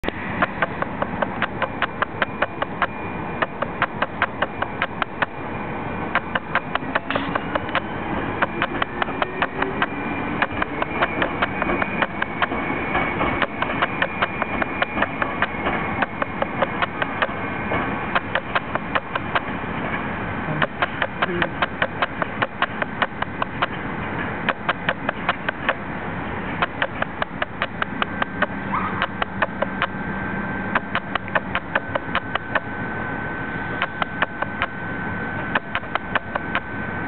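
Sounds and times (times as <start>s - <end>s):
sharp steady clicking: 0.0s - 5.4s, 6.0s - 19.6s, 20.5s - 30.0s, 30.7s - 32.8s, 33.8s - 36.8s
train motor whine: 0.0s - 37.0s.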